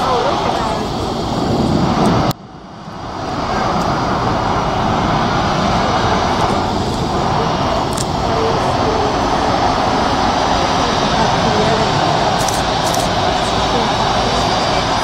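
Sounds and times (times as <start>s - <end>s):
jet engines roaring at takeoff: 0.0s - 15.0s.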